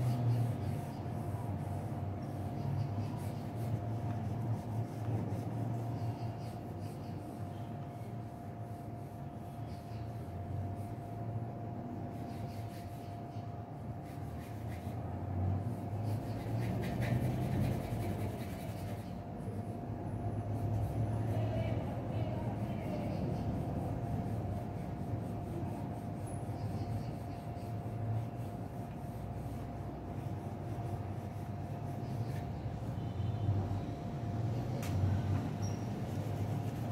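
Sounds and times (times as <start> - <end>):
pencil scratching on paper: 0.0 - 11.1, 12.1 - 19.5, 20.4 - 33.2, 35.7 - 36.9
constant thin hum: 0.0 - 36.9.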